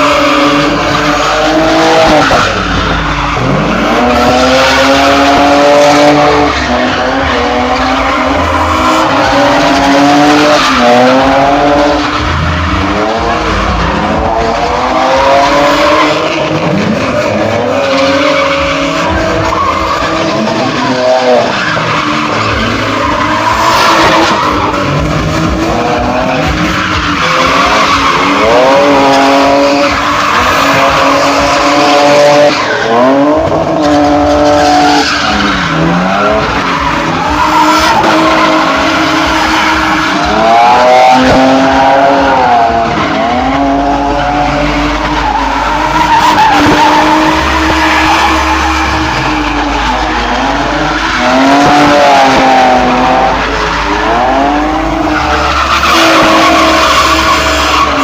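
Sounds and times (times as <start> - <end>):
car engine revving: 0.0 - 58.0
tyres screeching: 0.0 - 58.0.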